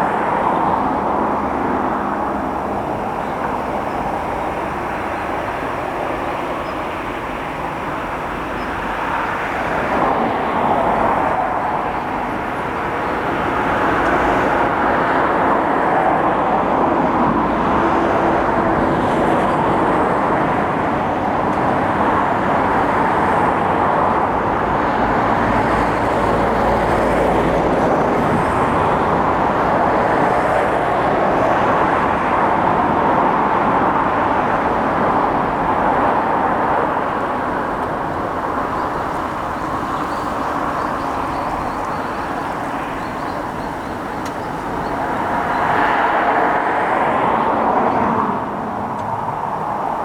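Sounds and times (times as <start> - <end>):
train wheels rumbling on rail: 0.0 - 50.0.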